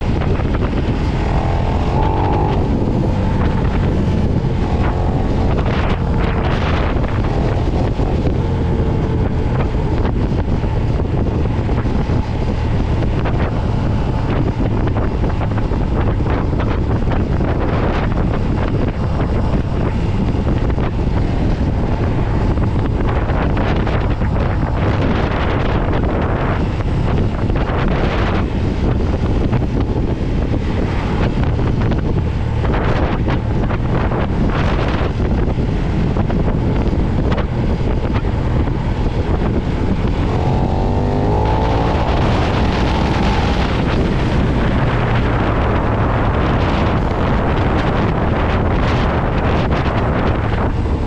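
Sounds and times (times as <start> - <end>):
motorcycle engine rumbling: 0.0 - 51.0
wind buffeting microphone: 0.0 - 51.0.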